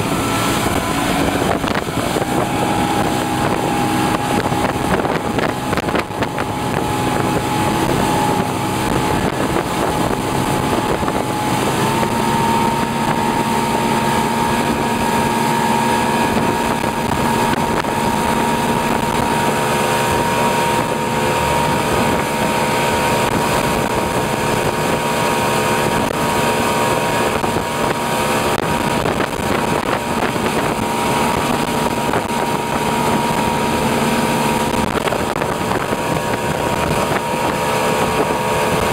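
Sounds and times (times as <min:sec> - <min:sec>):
churning wake: 0:00.0 - 0:38.9
motorboat engine running: 0:00.0 - 0:38.9
wind buffeting microphone: 0:00.0 - 0:38.9.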